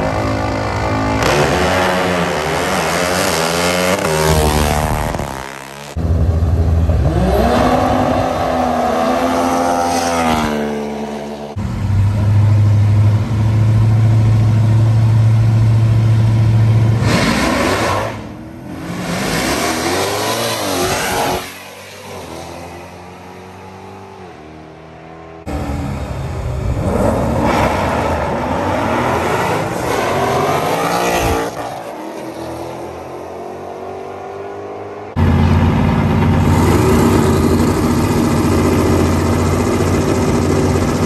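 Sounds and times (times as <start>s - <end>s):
drag racing engines revving: 0.0s - 41.0s.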